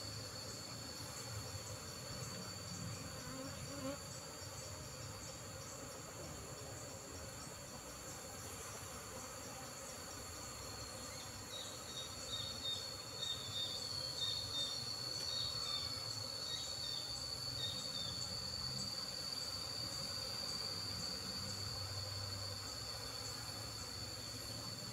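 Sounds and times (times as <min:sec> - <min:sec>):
high-pitched insect trill: 0:00.0 - 0:24.9
honey bees buzzing: 0:00.0 - 0:24.9.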